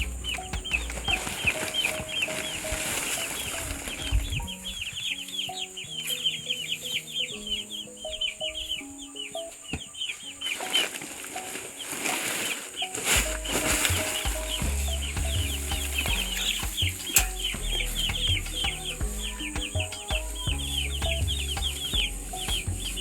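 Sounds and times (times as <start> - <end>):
chicks peeping: 0.0 - 23.0
melodic music: 0.0 - 23.0.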